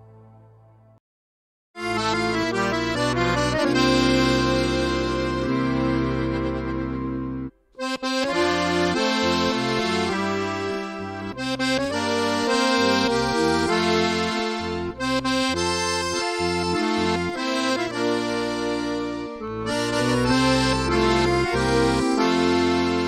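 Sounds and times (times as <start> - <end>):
instrumental background music: 1.8 - 23.0.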